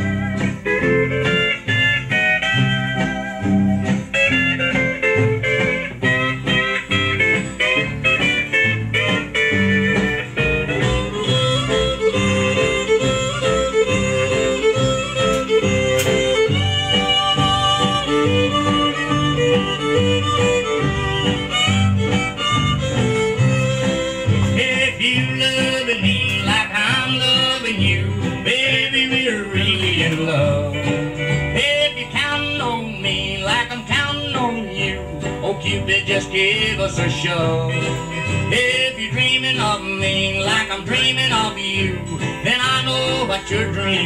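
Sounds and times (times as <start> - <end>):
country music with fiddle and guitar: 0.0 - 44.0.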